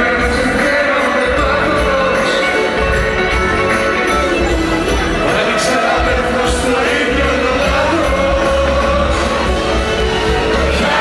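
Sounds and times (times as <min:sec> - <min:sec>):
live band music: 0:00.0 - 0:11.0
steady bass: 0:00.0 - 0:11.0.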